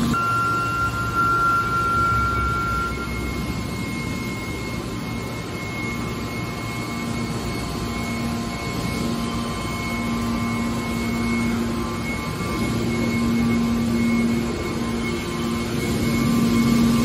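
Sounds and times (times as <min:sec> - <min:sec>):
low whine: 0:00.0 - 0:17.0
motor and pump drone: 0:00.0 - 0:17.0.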